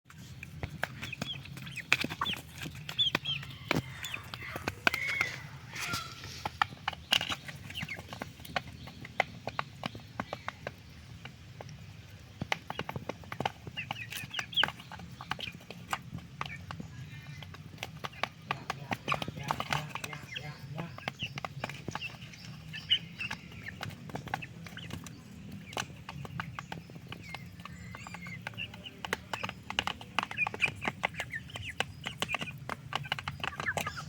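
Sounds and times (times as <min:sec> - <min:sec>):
chickens clucking and chirping: 0:00.1 - 0:34.0.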